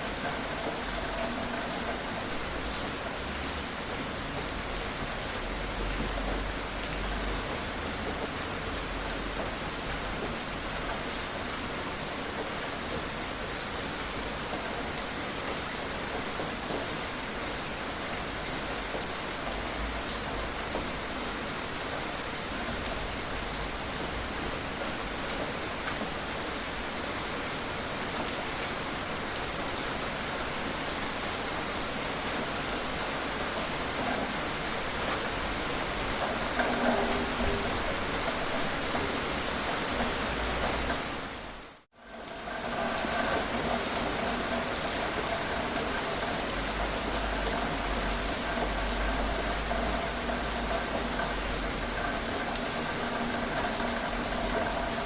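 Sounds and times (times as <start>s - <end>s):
gentle rain pattering: 0.0s - 55.0s.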